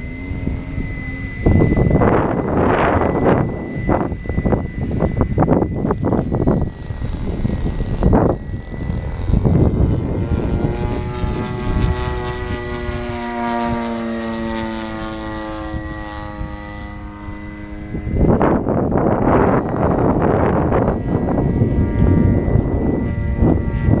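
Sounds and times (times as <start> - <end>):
model helicopter motor whine: 0.0 - 24.0
wind buffeting microphone: 0.0 - 24.0.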